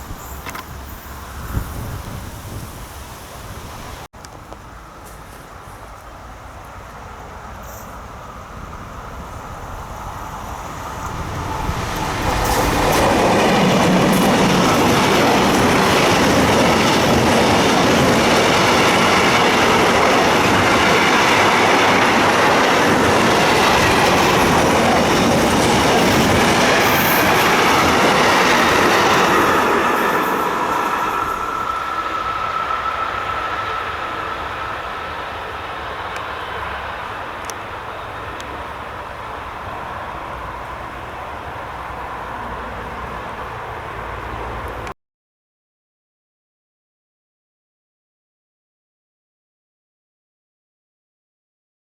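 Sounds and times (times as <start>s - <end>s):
train passing rumble: 0.0s - 44.9s.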